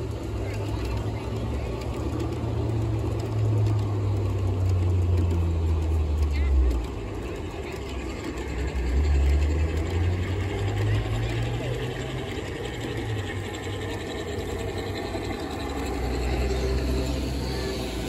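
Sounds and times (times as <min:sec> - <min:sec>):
model train wheels clattering: 0:00.0 - 0:18.0.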